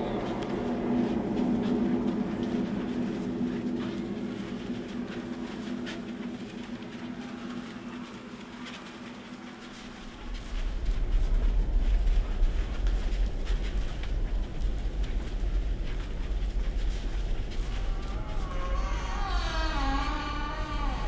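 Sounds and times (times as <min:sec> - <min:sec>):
low droning hum: 0:00.0 - 0:21.0.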